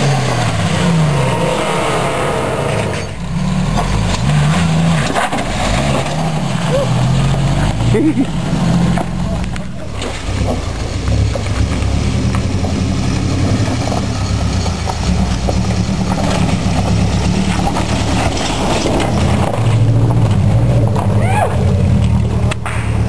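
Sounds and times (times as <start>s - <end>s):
car engine running at low revs: 0.0s - 23.0s
vehicle rattling and clanking: 0.0s - 23.0s.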